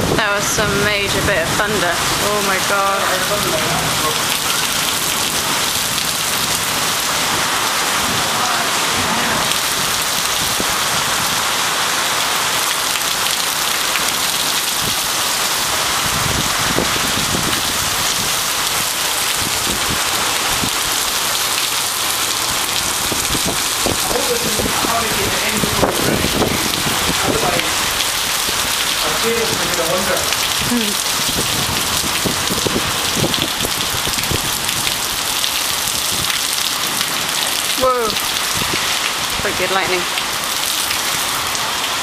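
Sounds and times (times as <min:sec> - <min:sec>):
heavy rain on hard surfaces: 0:00.0 - 0:42.0.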